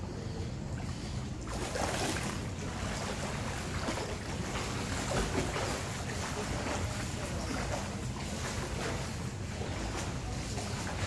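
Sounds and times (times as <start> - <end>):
swimmer splashing water: 0.1 - 11.0.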